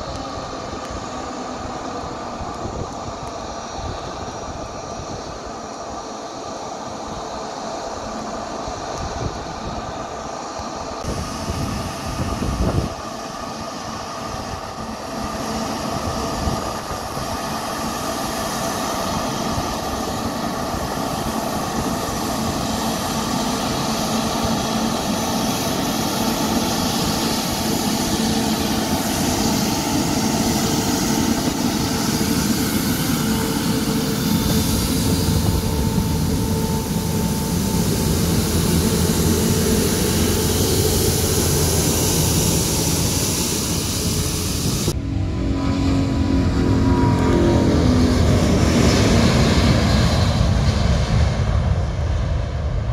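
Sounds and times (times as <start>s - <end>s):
jet engines whining and rumbling: 0.0s - 52.9s.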